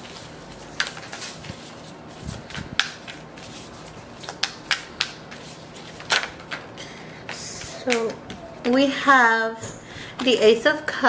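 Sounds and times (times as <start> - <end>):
cards being shuffled: 0.0 - 8.9.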